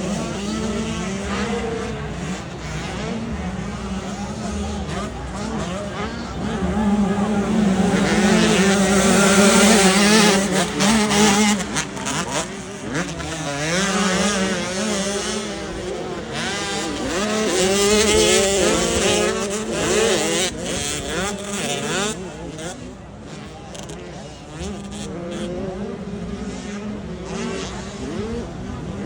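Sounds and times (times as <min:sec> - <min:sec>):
motocross bike engines revving: 0:00.0 - 0:29.0.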